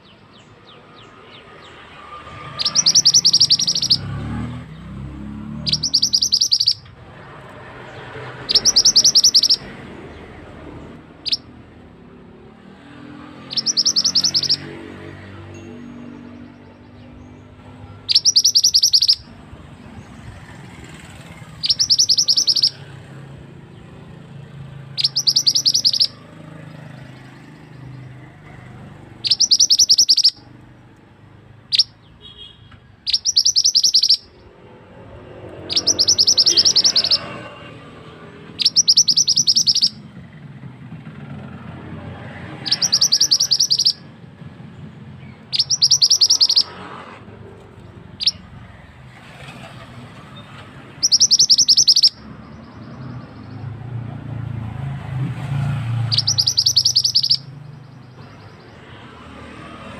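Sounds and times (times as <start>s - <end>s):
bird trilling: 0.0s - 40.4s, 41.0s - 59.3s.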